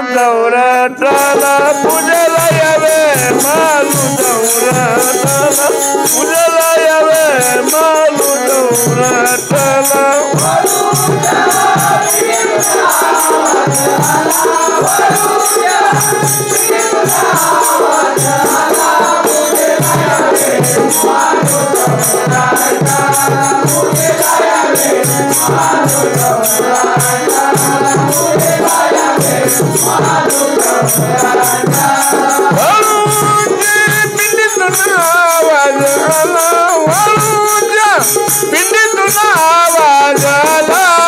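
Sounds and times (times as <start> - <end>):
harmonium melody: 0.0 - 41.0
high jingling percussion: 0.0 - 41.0
fast hand drum rhythm: 1.0 - 41.0.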